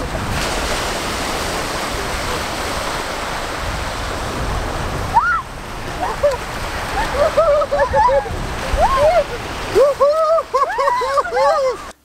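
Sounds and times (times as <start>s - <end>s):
waves washing onto pebbly shore: 0.0s - 12.0s.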